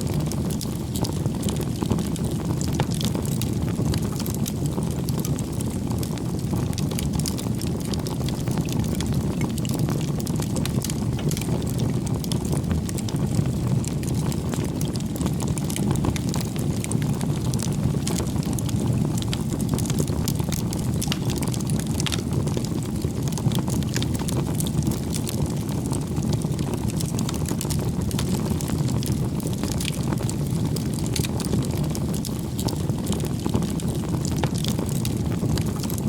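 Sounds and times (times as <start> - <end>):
burning wood crackling: 0.0 - 36.0
low rumble of flames: 0.0 - 36.0.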